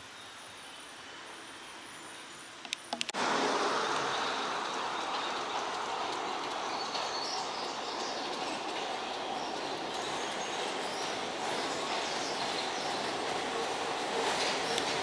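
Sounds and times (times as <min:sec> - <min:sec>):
train rolling on rails: 0:02.0 - 0:15.0.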